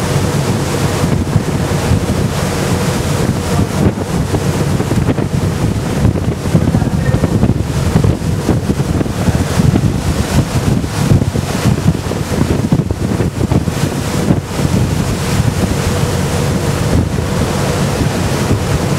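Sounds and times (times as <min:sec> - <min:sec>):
waves against a boat: 0:00.0 - 0:18.9
wind buffeting microphone: 0:00.0 - 0:18.9.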